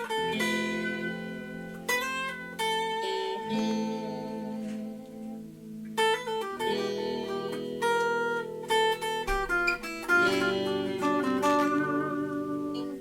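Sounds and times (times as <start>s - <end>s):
solo acoustic guitar: 0.0s - 13.0s.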